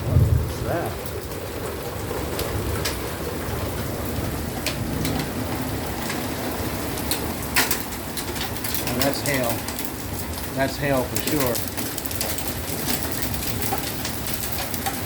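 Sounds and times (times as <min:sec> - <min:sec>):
low rumble of thunder: 0:00.0 - 0:10.5, 0:12.3 - 0:15.0
hailstones ticking: 0:00.0 - 0:15.0
torrential rain: 0:00.0 - 0:15.0.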